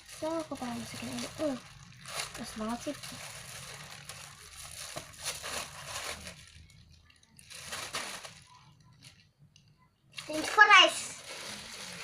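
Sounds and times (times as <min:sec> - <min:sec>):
packaging crinkling: 0:00.0 - 0:09.3, 0:10.2 - 0:12.0.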